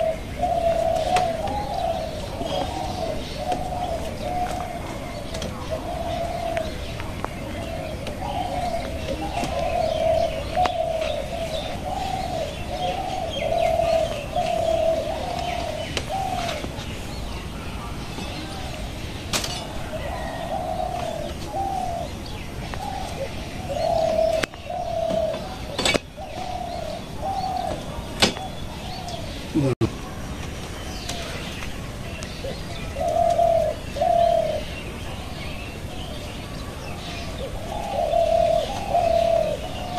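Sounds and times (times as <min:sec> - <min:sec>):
dove cooing: 0:00.0 - 0:18.8, 0:19.7 - 0:29.8, 0:32.4 - 0:39.9
small birds chirping: 0:00.0 - 0:39.9.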